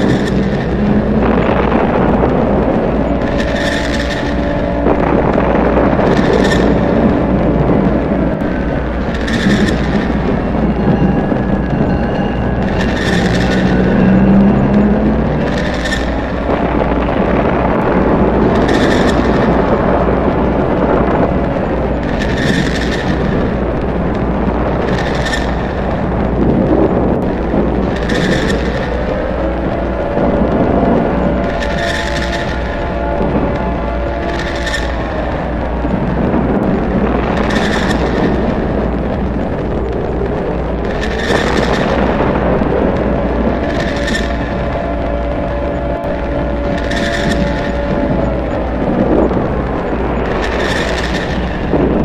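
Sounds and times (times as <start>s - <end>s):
air raid siren: 0.0s - 52.0s
rumble of explosions: 0.0s - 52.0s.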